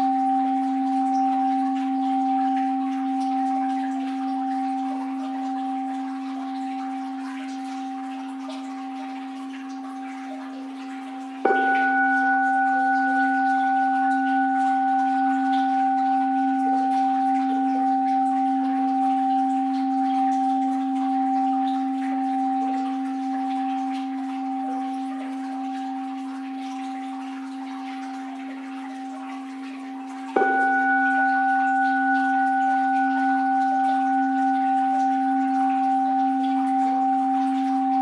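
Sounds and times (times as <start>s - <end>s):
bowl bell ringing: 0.0s - 38.0s
faint flowing water: 0.0s - 38.0s.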